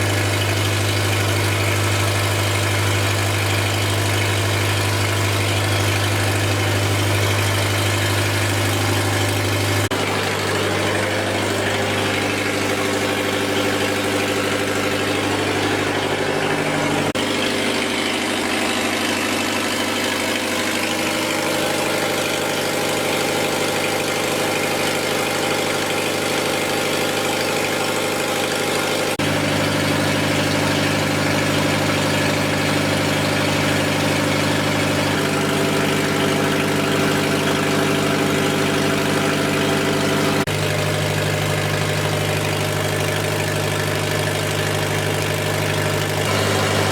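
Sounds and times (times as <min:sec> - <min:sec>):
diesel generator engine running: 0:00.0 - 0:46.9.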